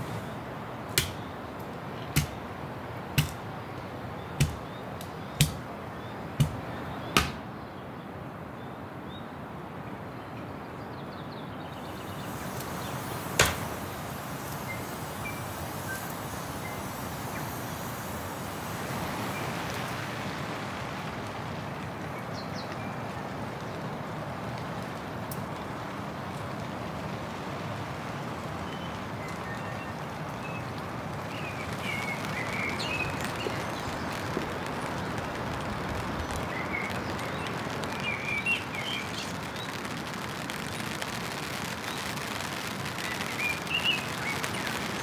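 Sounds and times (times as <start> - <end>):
campfire sticks popping: 0.0 - 7.5, 11.8 - 45.0
steady hiss: 0.0 - 7.5, 11.5 - 45.0.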